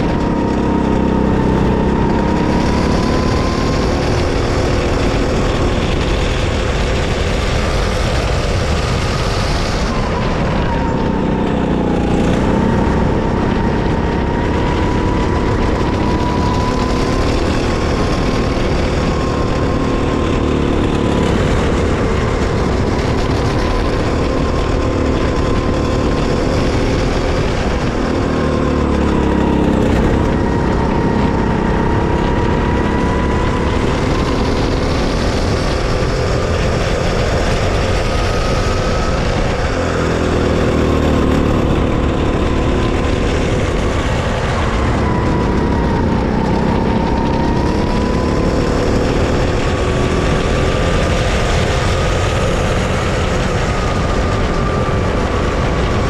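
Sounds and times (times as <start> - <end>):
go-kart engine running hard: 0.0 - 56.0.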